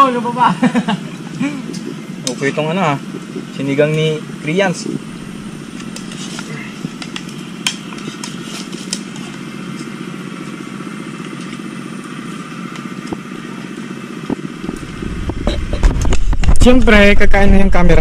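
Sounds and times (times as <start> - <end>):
small engine drone: 0.0 - 18.0.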